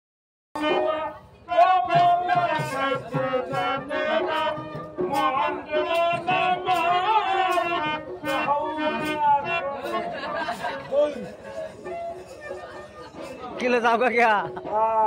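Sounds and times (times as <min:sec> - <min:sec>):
drum accompaniment: 0:00.6 - 0:15.0
harmonium playing folk melody: 0:00.6 - 0:15.0.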